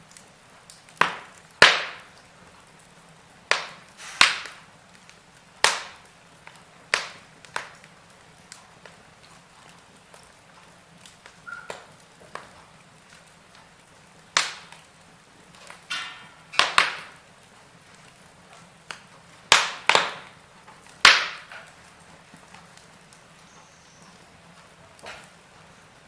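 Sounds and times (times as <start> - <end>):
burning logs popping: 0.0 - 26.0.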